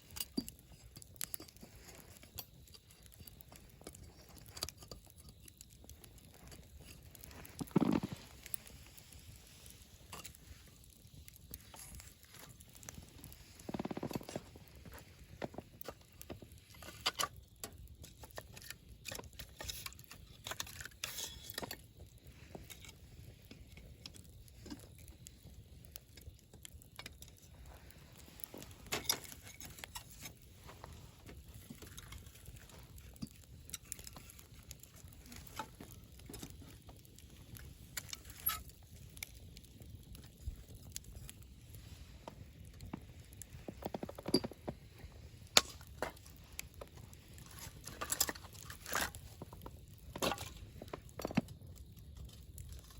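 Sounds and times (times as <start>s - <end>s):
campfire crackling and popping: 0.0s - 52.9s
low fire rumble: 0.0s - 52.9s.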